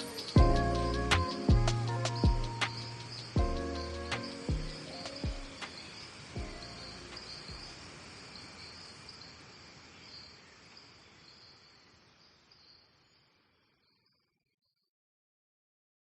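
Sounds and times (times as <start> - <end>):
insects trilling: 0.0 - 13.2
background hiss: 0.0 - 14.0.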